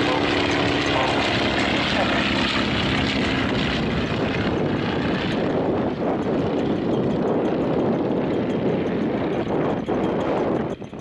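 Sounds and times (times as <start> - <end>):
biplane engines and propellers: 0.0 - 11.0.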